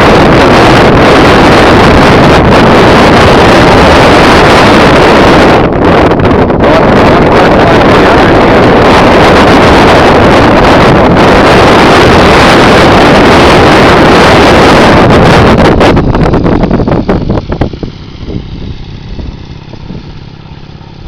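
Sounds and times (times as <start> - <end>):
wind blasting microphone: 0.0 - 21.0.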